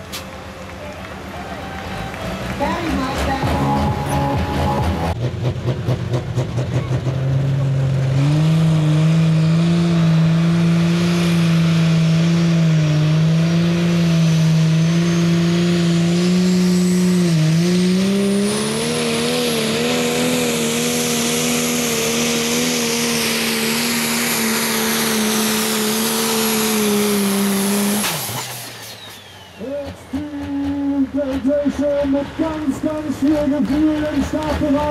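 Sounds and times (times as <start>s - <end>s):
diesel engine at high revs: 0.0s - 34.9s.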